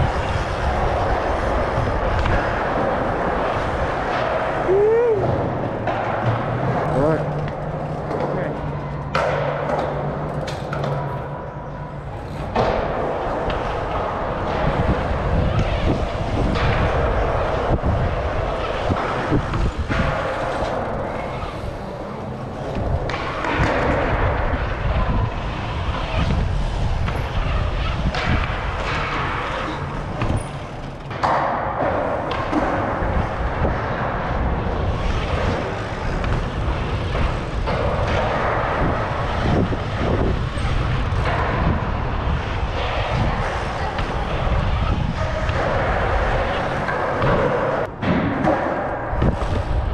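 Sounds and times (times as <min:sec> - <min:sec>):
wind rushing over microphone: 0:00.0 - 0:08.1, 0:11.8 - 0:30.8, 0:31.8 - 0:49.9
bike tyres rolling on concrete: 0:00.0 - 0:49.9.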